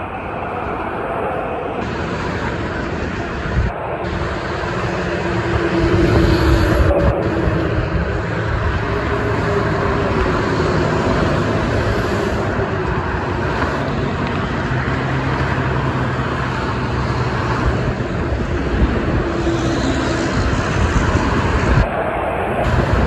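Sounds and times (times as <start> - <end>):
engine drone of passing vehicles: 0.0 - 23.0
highway traffic tyre hiss: 0.0 - 23.0
truck engines humming: 0.0 - 23.0.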